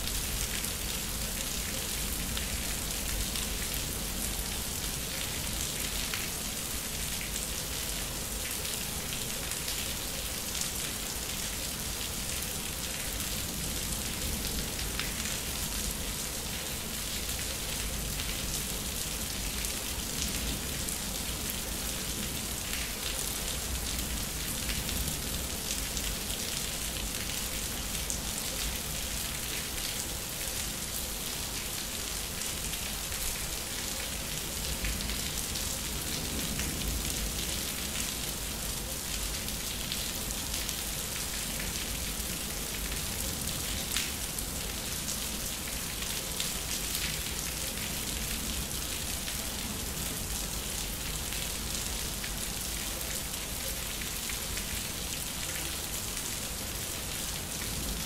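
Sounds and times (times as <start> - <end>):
rain on concrete: 0.0 - 58.0.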